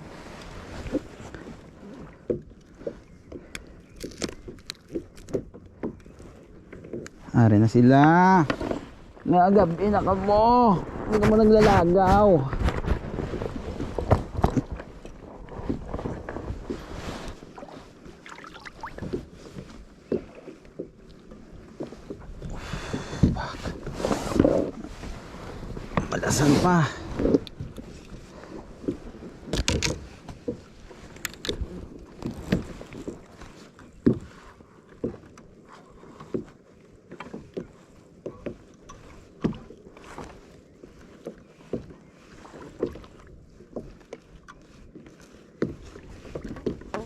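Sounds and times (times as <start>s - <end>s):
boat knocking and splashing: 0.0s - 47.0s
low water wash: 0.0s - 47.0s.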